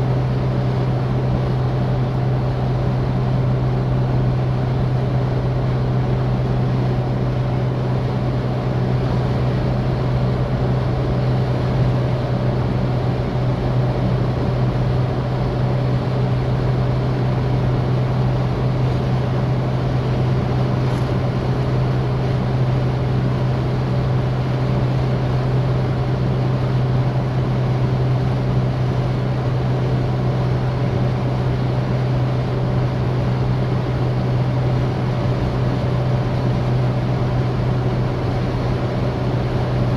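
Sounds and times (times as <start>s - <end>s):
car engine droning at cruise: 0.0s - 39.9s.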